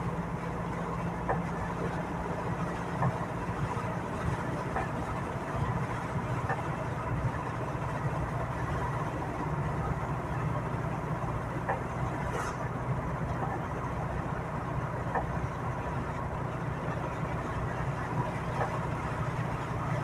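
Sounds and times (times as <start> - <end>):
engine and tyre noise: 0.0 - 20.0
rain on windscreen: 0.0 - 20.0.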